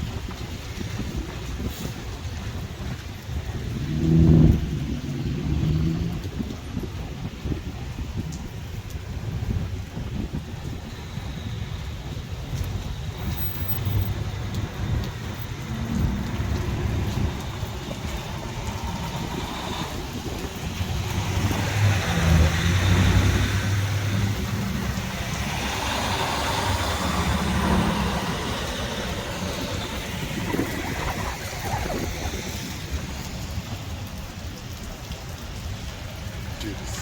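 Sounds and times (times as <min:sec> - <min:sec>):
traffic passing on wet road: 0:00.0 - 0:37.0.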